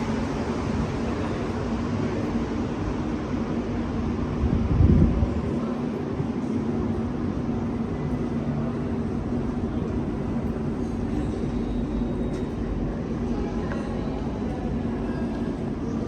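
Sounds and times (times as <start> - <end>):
metro station rumble and hum: 0.0 - 16.0.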